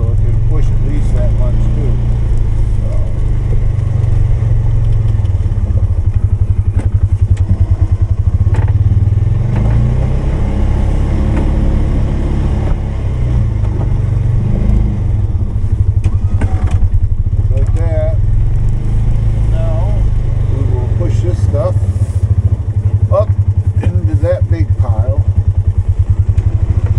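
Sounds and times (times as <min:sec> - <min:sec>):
engine running under load: 0:00.0 - 0:26.9.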